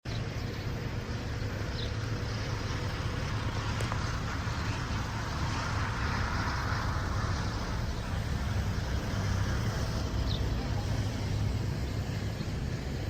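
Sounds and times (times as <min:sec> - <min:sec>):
low rumble and hiss: 0:00.1 - 0:13.0.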